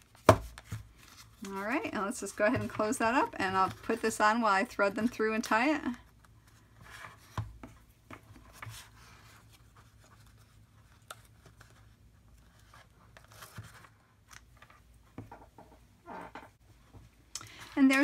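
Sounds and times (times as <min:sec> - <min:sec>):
cardstock and ribbon rustling: 0:00.0 - 0:14.9.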